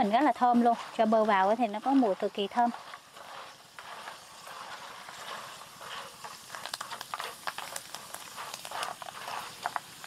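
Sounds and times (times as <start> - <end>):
banana slices sizzling in oil: 0.0 - 10.0
sharp crackles and clicks: 0.0 - 10.0.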